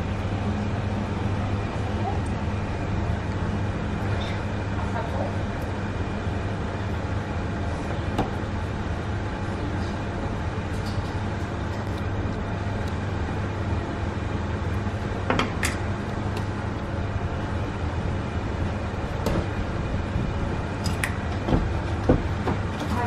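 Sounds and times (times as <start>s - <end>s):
kitchen machinery hum: 0.0s - 23.0s.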